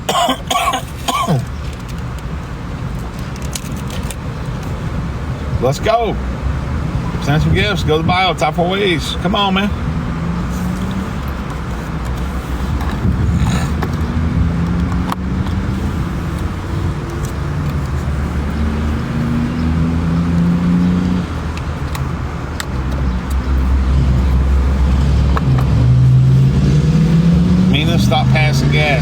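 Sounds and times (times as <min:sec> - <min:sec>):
car engines rumbling: 0:00.0 - 0:29.0.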